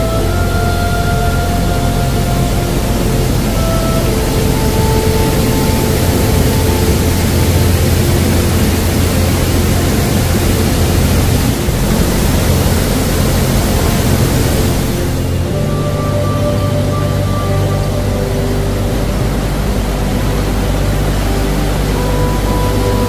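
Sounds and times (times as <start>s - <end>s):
soft background music chords: 0.0s - 23.0s
water cascading roar: 0.0s - 23.0s.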